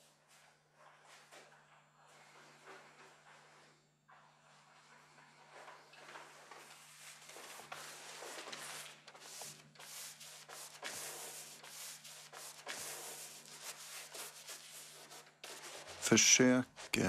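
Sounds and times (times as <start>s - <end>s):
paintbrush swishing on canvas: 2.2s - 17.0s.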